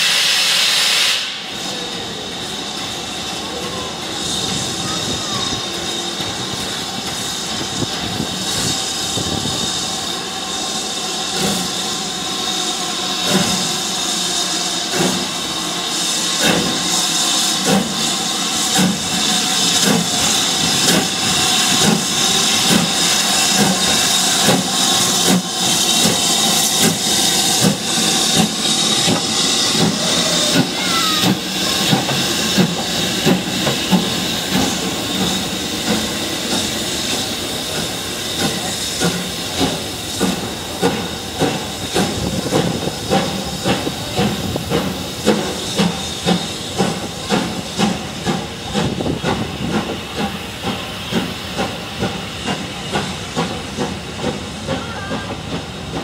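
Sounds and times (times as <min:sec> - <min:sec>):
steam hissing: 0:00.0 - 0:56.0
steam locomotive chuffing: 0:00.0 - 0:56.0.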